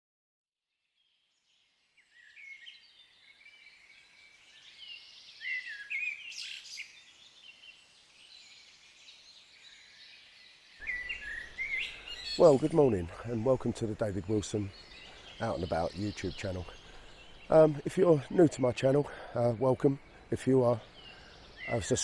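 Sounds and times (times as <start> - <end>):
woodland birds chirping: 1.0 - 22.0.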